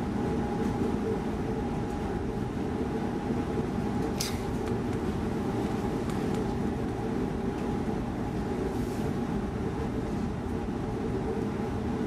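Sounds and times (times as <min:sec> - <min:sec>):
train car low hum: 0:00.0 - 0:12.0.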